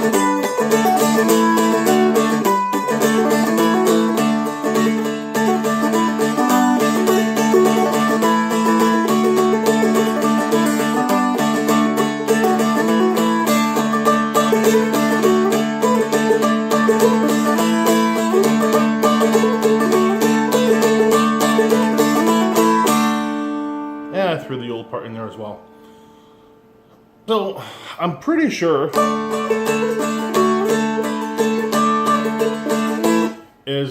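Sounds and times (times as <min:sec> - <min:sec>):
fretted dulcimer jig melody: 0:00.0 - 0:24.3, 0:28.9 - 0:33.4
drone strings ringing: 0:00.0 - 0:26.2, 0:28.9 - 0:33.4.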